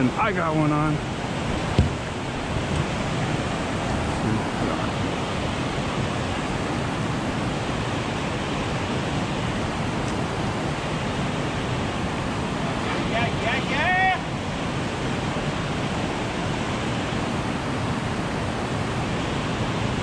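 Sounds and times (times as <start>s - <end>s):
rushing whitewater: 0.0s - 20.0s.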